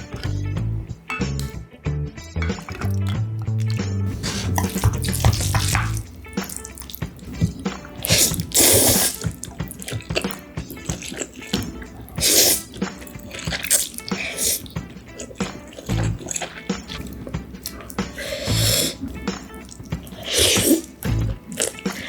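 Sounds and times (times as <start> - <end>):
wet mouth clicks: 0.0 - 0.8, 2.5 - 22.0
wet noodle slurping: 0.0 - 0.8, 2.6 - 22.0
background music: 0.0 - 22.0.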